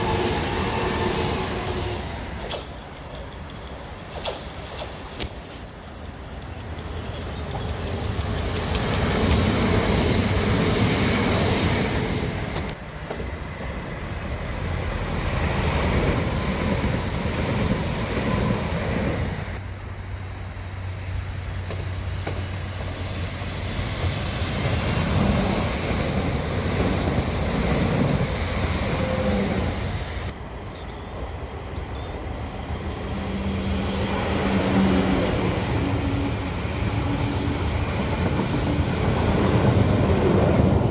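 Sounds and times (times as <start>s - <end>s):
train wheels rumbling on rails: 0.0s - 19.6s, 20.7s - 40.9s.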